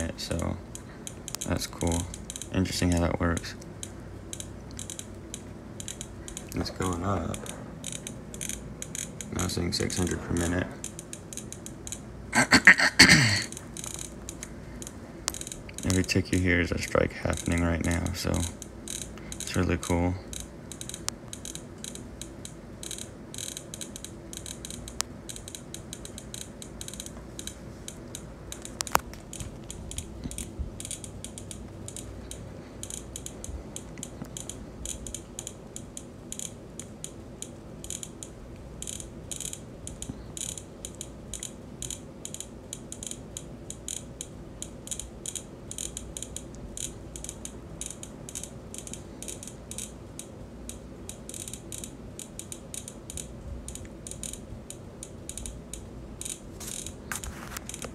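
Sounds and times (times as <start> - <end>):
rapid electronic ticks: 0.0 - 57.9.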